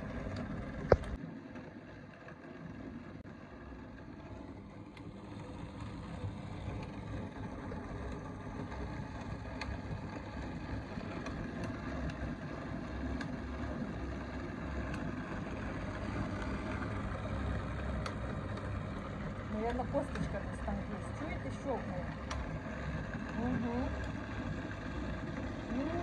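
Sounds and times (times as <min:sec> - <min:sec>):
blender motor running: 0:00.0 - 0:26.0
sharp clicks in blender: 0:00.2 - 0:01.2, 0:04.3 - 0:26.0.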